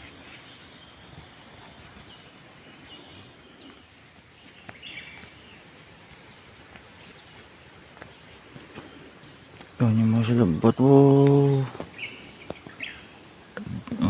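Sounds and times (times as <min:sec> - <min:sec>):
faint forest ambience: 0:00.0 - 0:14.0.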